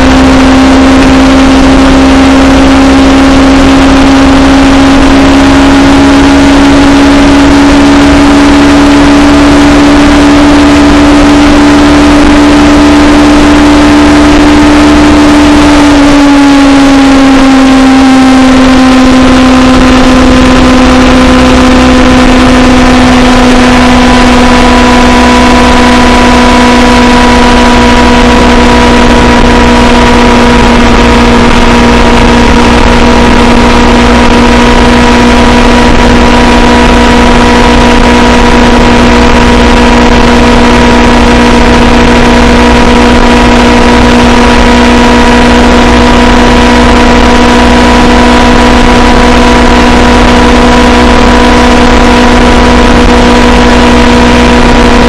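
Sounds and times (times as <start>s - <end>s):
motorcycle engine droning: 0.0s - 55.0s
wind and road noise: 0.0s - 55.0s.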